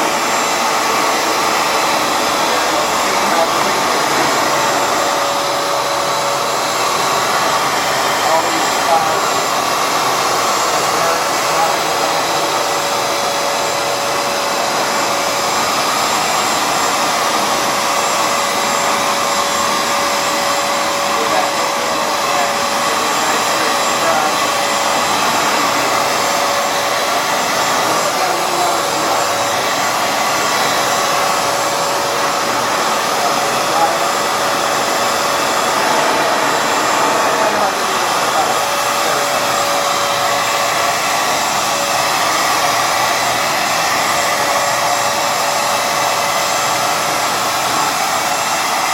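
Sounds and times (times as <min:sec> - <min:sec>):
floor cleaner suction motor: 0:00.0 - 0:48.9.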